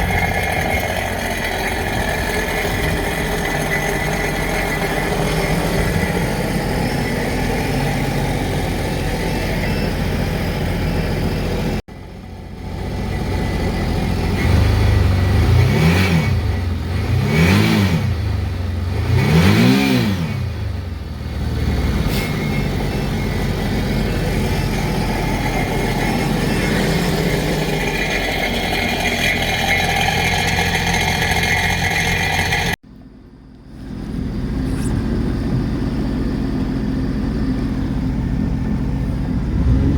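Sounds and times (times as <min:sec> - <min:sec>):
watercraft engine revving: 0:00.0 - 0:11.8, 0:13.6 - 0:32.8, 0:38.3 - 0:39.9.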